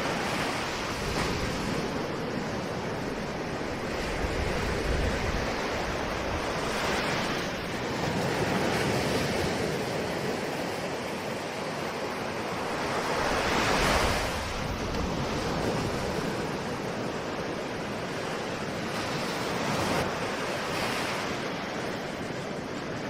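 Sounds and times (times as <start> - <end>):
ocean waves washing: 0.0 - 23.0.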